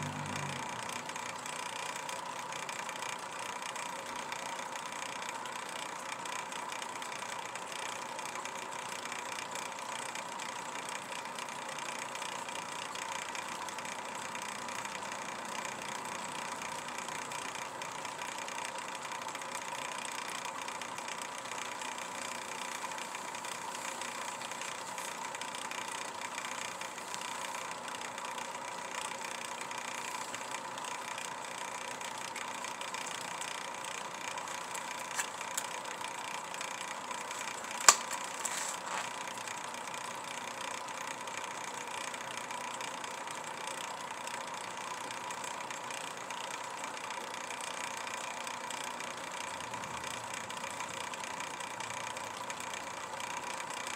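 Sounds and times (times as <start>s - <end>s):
steady machine hum: 0.0s - 53.9s.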